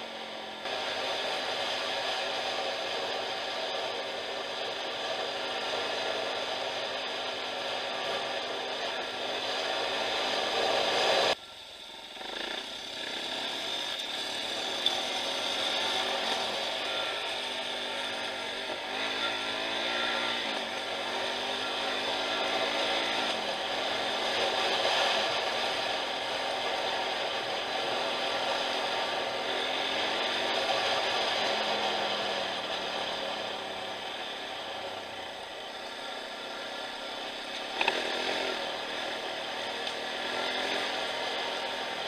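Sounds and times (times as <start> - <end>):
motorcycle engine revving: 0.0 - 11.4, 12.0 - 42.0.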